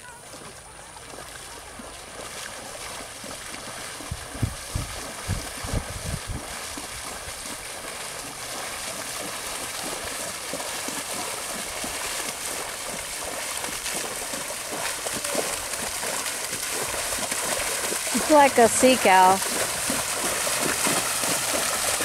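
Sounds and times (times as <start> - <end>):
horse splashing through water: 0.0 - 22.0.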